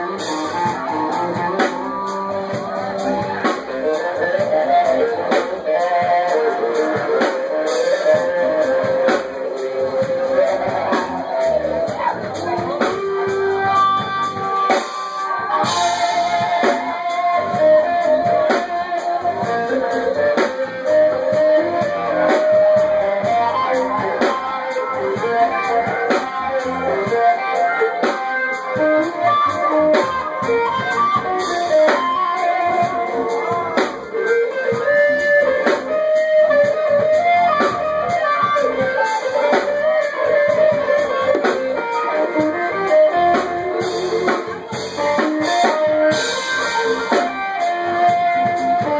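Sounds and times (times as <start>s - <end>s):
guitar playing melodic notes: 0.0s - 48.9s
live band music: 0.0s - 48.9s.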